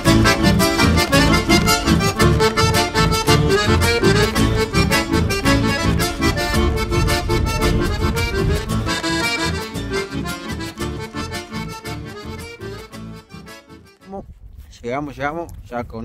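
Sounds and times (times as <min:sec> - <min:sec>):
accordion music with steady beat: 0:00.0 - 0:14.4.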